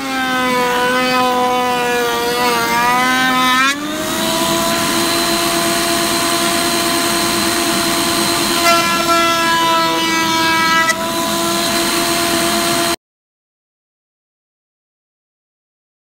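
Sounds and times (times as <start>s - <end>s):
router cutting wood: 0.0s - 13.0s
router whining: 0.0s - 13.0s.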